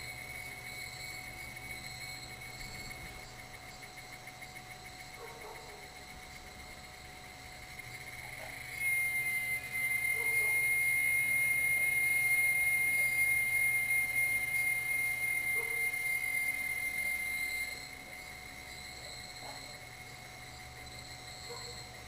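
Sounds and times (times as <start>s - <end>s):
chorus of night insects: 0.0s - 22.0s
insect high-pitched trill: 0.0s - 22.0s.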